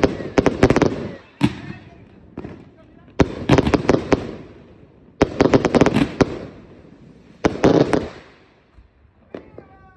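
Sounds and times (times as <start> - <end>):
firework cake firing volleys: 0.0 - 9.9.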